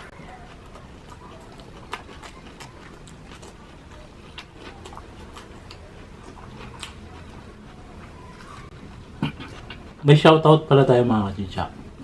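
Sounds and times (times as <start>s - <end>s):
crunchy chewing: 0.0s - 10.1s
low background hum: 0.0s - 12.0s.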